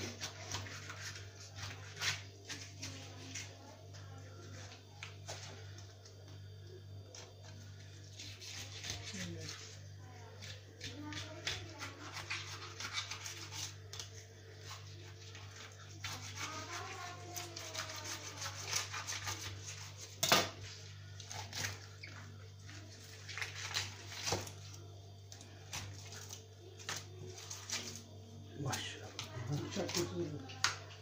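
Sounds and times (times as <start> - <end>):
scraping fish scales: 0.0 - 3.8, 7.1 - 28.9.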